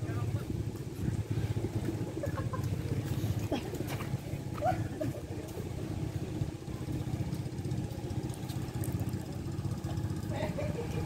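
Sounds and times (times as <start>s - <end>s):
small engine running: 0.2s - 11.0s.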